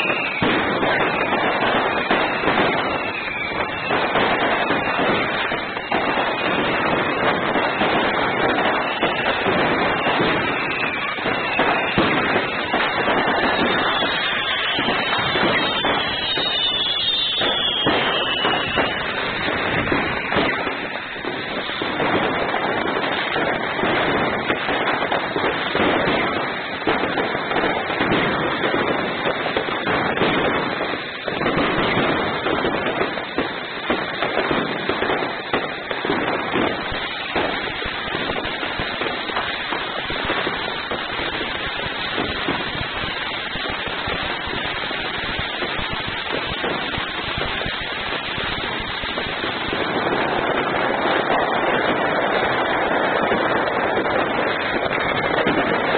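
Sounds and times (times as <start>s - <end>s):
firework fountain crackling: 0.0s - 55.9s
firework fountain hissing: 0.0s - 55.9s.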